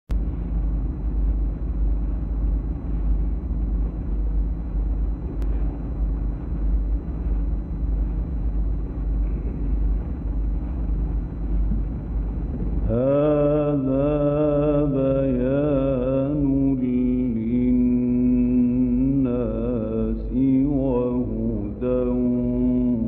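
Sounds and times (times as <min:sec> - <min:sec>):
low hum and rumble with hiss: 0:00.1 - 0:23.0.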